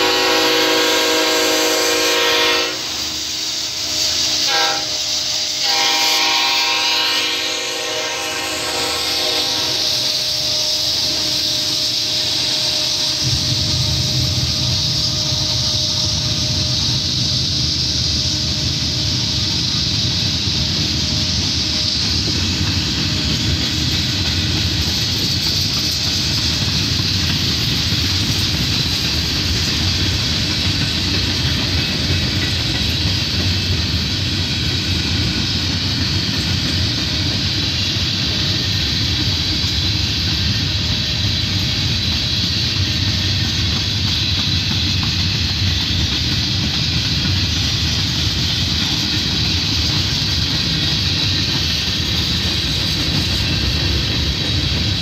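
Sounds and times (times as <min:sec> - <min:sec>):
high hiss: 0:00.0 - 0:55.0
train wheels rumbling on rail: 0:00.0 - 0:55.0.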